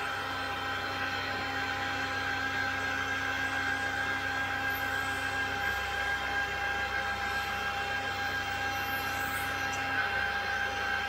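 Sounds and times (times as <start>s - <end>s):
milling machine whine: 0.0s - 11.0s.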